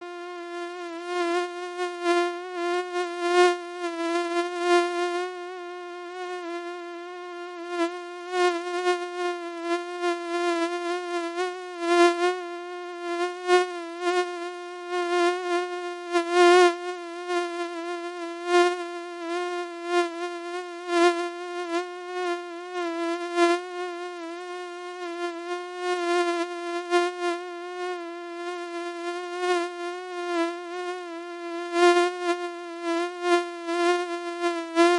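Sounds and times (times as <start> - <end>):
mosquito buzzing whine: 0.0 - 34.9.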